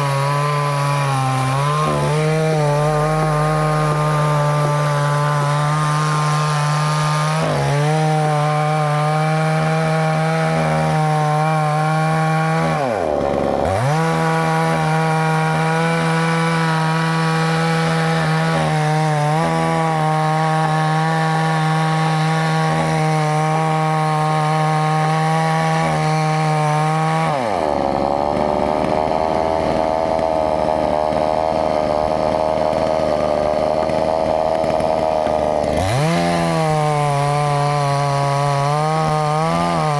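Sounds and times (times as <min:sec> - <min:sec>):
chainsaw cutting tree: 0:00.0 - 0:39.9.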